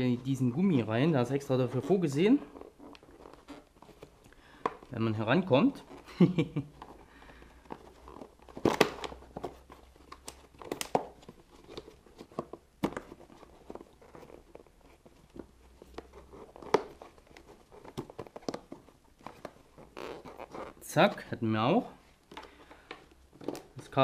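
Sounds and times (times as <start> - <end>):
rustling of cables and parts: 0.0 - 24.0.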